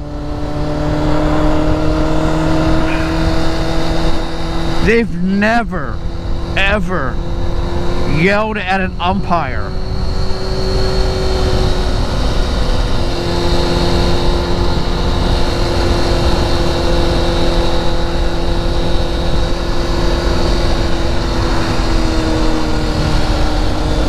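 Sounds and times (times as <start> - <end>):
engine drone: 0.0 - 24.0
wind and road noise: 0.0 - 24.0.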